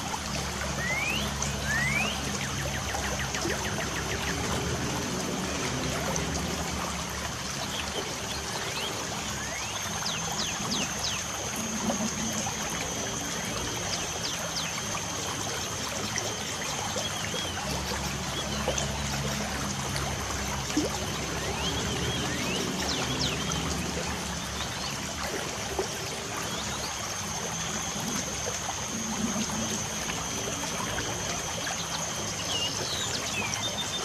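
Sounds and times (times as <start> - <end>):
light rain dripping: 0.0 - 34.0.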